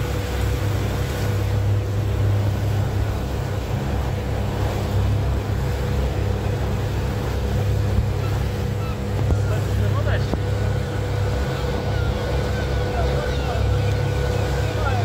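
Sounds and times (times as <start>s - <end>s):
motorboat engine droning: 0.0s - 15.0s
water hissing along hull: 0.0s - 15.0s.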